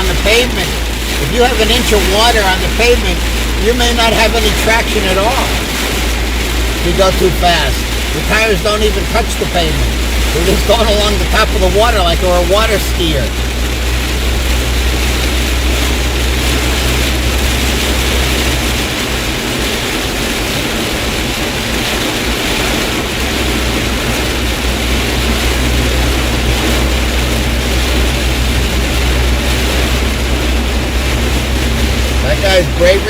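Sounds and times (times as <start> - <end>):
engine and road drone: 0.0 - 33.0
heavy rain on vehicle roof: 0.0 - 33.0
tyres through standing water: 0.0 - 33.0.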